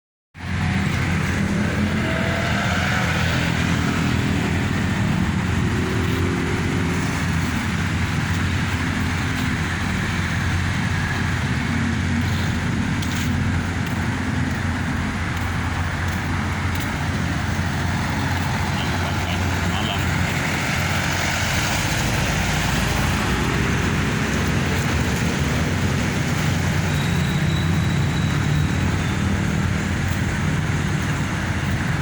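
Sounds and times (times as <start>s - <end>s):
low vehicle rumble: 0.4s - 32.0s.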